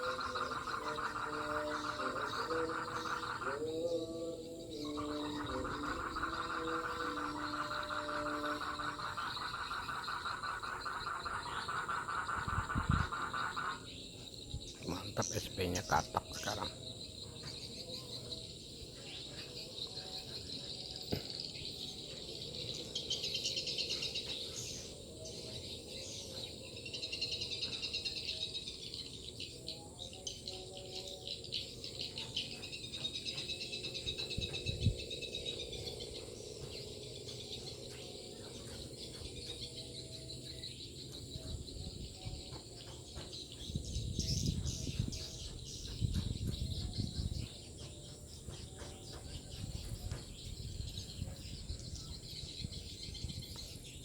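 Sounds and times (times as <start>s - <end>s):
high insect buzz: 0.0s - 47.6s.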